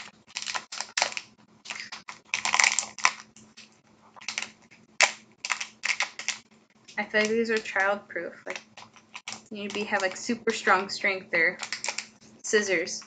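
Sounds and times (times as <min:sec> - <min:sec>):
plastic bag crinkling: 0:00.0 - 0:10.6, 0:11.5 - 0:12.4.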